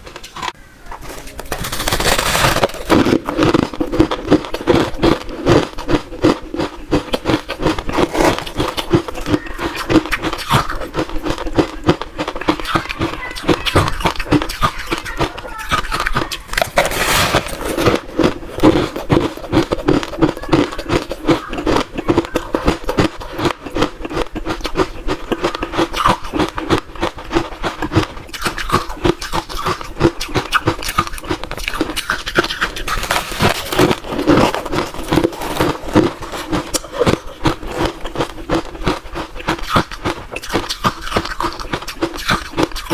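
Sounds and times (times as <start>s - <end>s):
chewing crunchy ice: 1.2s - 42.9s.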